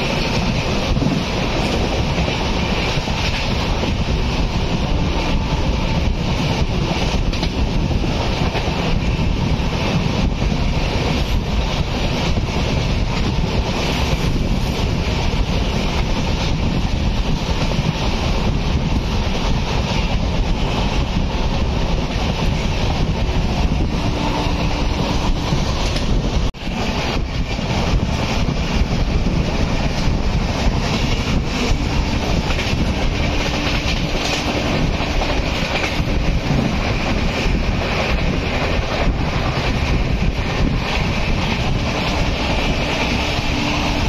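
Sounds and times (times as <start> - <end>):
train wheels on rails: 0.0 - 44.0.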